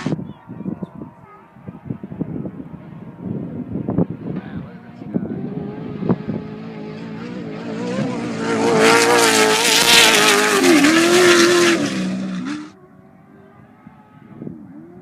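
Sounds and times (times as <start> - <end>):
race vehicle engine passing: 0.0 - 15.0.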